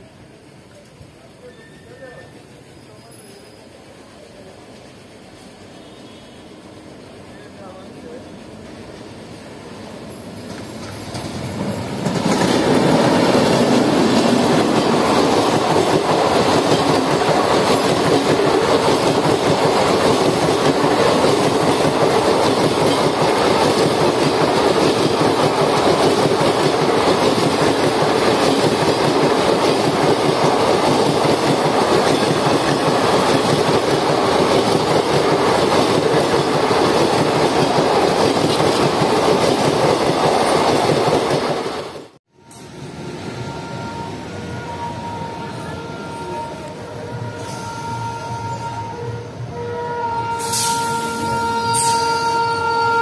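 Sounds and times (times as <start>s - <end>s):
steel wheels rushing on rails: 0.0s - 45.7s
train passing at speed: 0.0s - 53.0s.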